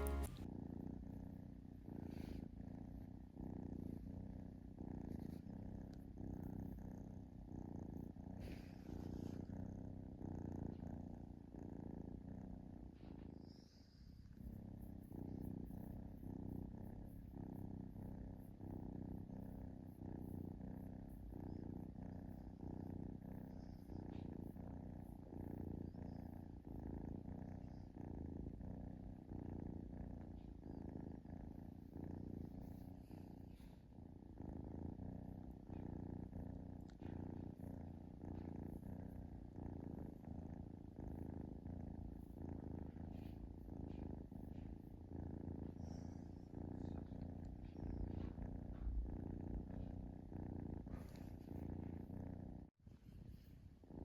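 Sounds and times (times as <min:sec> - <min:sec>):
kitten purring: 0:00.0 - 0:54.0.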